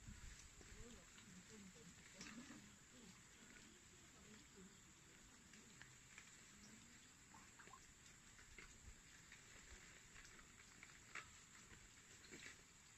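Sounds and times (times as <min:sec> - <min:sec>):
faint steady hiss: 0:00.0 - 0:12.9.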